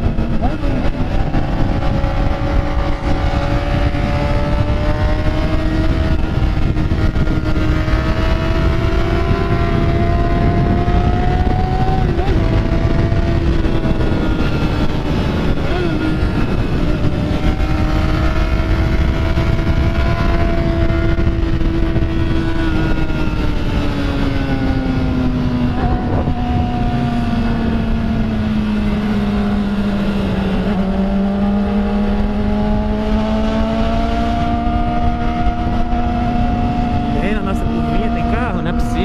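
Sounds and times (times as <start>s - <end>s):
motorcycle engine running: 0.0s - 39.0s
wind on microphone: 0.0s - 39.0s.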